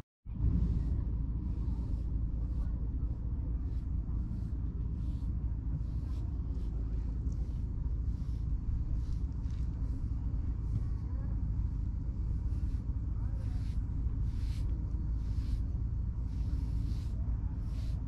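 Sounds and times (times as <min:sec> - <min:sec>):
brush strokes through fur: 0:00.4 - 0:18.0.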